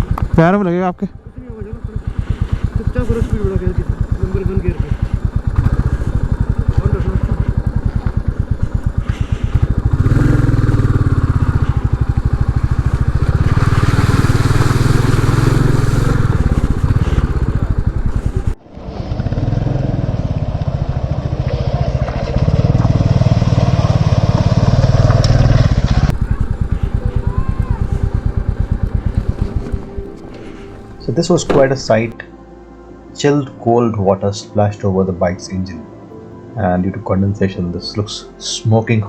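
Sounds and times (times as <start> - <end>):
motorcycle engine thumping: 0.0 - 32.2.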